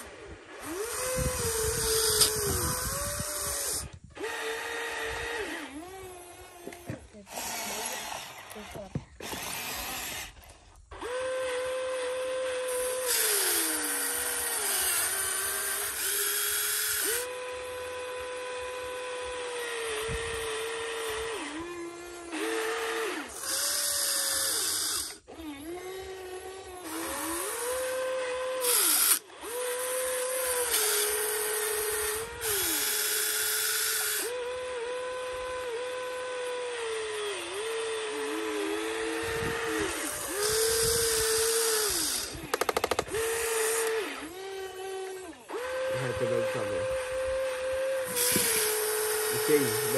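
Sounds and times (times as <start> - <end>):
electric motors whining: 0.0 - 49.9.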